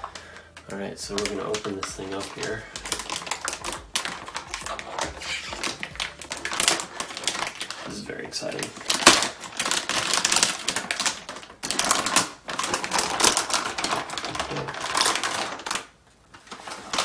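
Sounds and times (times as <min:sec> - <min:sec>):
metallic bag crinkling: 0:00.0 - 0:17.0.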